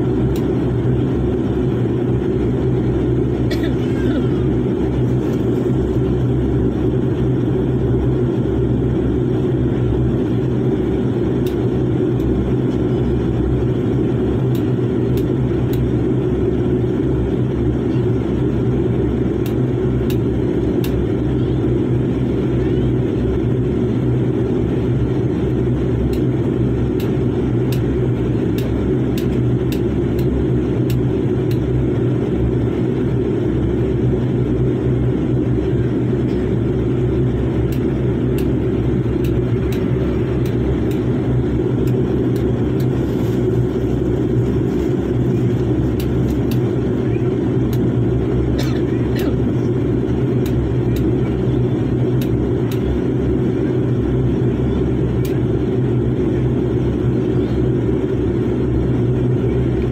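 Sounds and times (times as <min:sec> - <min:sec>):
airliner cabin low rumble: 0:00.0 - 0:59.9.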